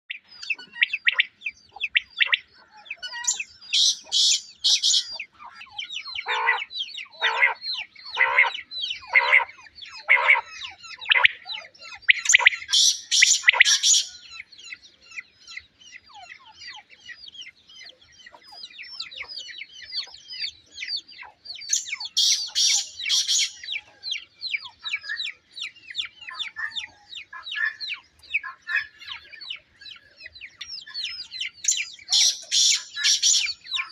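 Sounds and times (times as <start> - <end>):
quail calling: 0.1 - 33.9
small birds chirping: 0.1 - 33.9.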